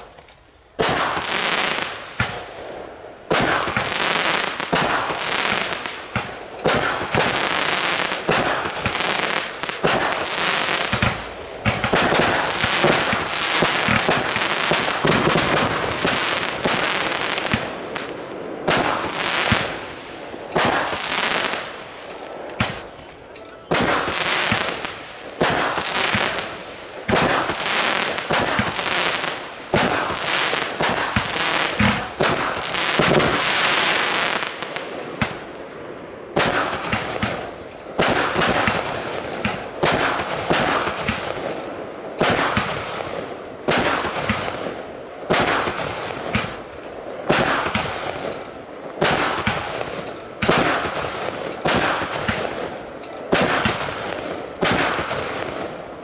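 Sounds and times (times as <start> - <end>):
fireworks shots launching: 0.0 - 35.6, 36.3 - 55.8
fireworks bursts banging: 0.0 - 56.0.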